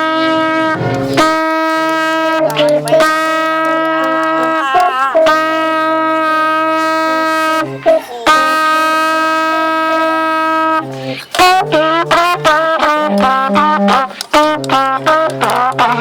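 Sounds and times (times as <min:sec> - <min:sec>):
wind instrument playing: 0:00.0 - 0:16.0.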